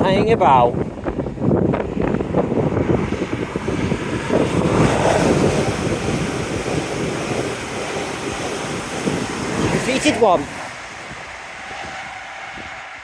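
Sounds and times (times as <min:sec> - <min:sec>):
wind buffeting microphone: 0:00.0 - 0:13.0
train passing at speed: 0:00.8 - 0:13.0.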